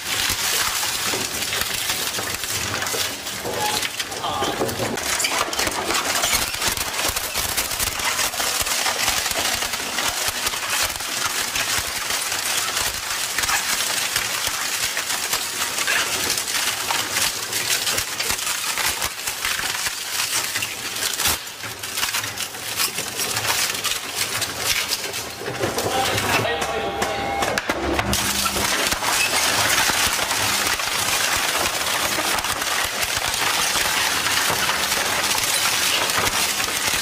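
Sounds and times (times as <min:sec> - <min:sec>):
shredder splintering wood: 0:00.0 - 0:37.0.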